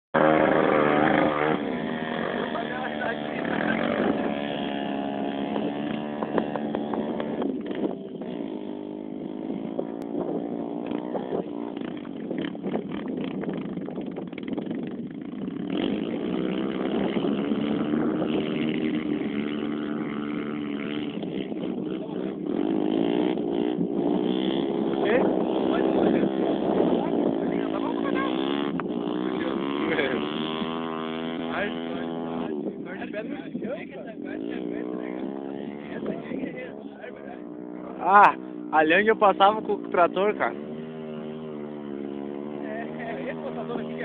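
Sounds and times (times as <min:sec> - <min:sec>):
motorcycle engine revving: 0:00.1 - 0:44.0.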